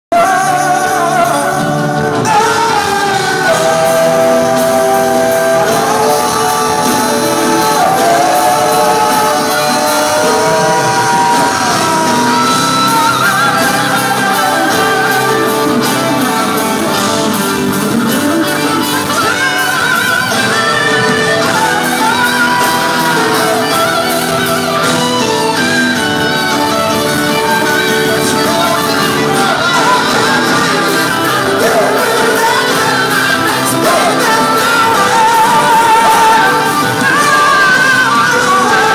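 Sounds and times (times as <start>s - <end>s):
male group singing: 0.1s - 25.0s, 26.8s - 38.9s
band with guitar: 0.1s - 38.9s.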